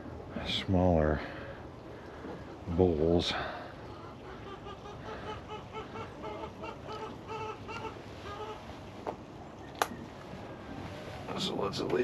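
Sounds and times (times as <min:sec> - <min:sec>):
hens clucking: 0:02.3 - 0:12.0.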